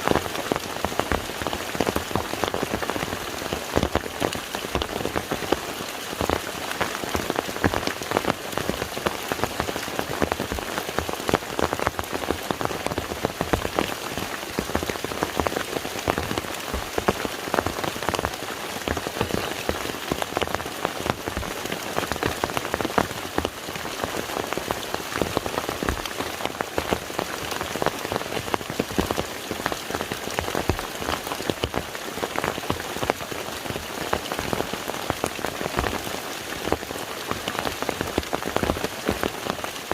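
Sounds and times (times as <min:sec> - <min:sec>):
rain falling on a lake: 0:00.0 - 0:39.9.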